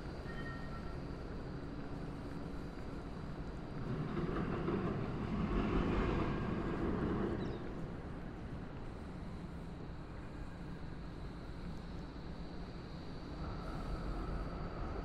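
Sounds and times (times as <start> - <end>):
low city hum: 0.0 - 15.0.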